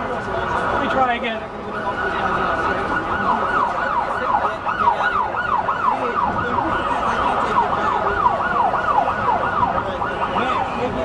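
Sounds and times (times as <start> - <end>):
street noise: 0.0 - 11.0
siren yelping: 0.4 - 11.0.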